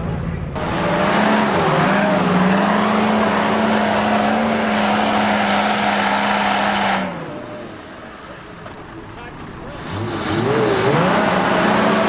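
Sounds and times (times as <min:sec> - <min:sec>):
off-road vehicle engine at high revs: 0:00.0 - 0:12.0.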